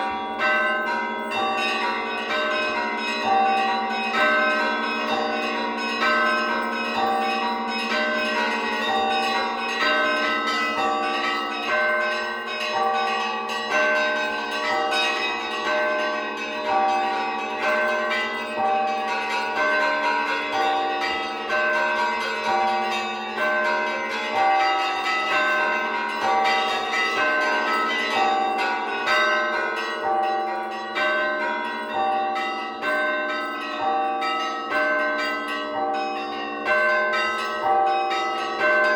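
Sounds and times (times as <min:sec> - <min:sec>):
small church bells pealing: 0:00.0 - 0:38.9.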